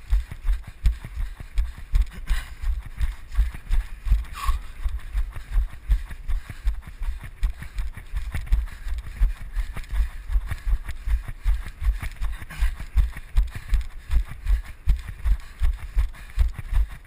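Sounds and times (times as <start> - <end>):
running footsteps on grass: 0.0 - 17.0.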